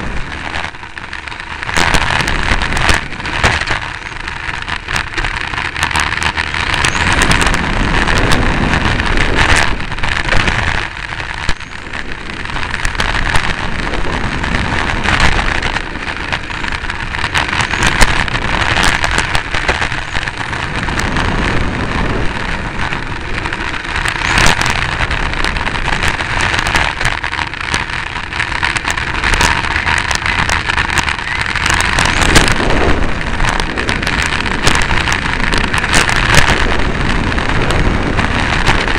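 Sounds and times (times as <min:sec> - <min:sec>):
tyre rumble on asphalt: 0:00.0 - 0:38.9
wind rush over microphone: 0:00.0 - 0:38.9.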